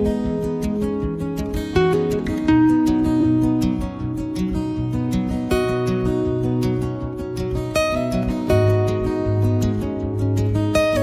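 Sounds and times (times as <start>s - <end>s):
plucked-string instrumental music: 0.0s - 11.0s.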